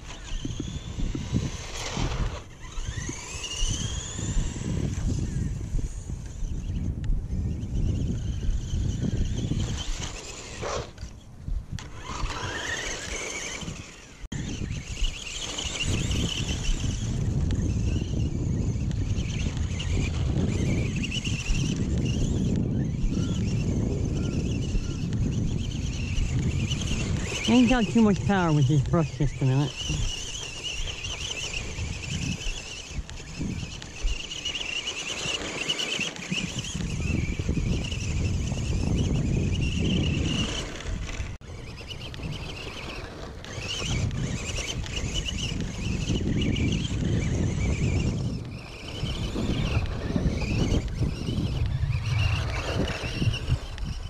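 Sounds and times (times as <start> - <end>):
electric motor and gears whining: 0.0 - 54.0.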